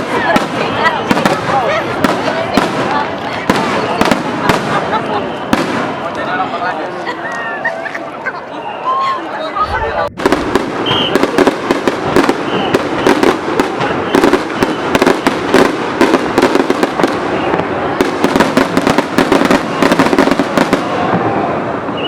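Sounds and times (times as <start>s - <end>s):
fireworks bangs and crackles: 0.0s - 7.0s, 9.6s - 22.0s.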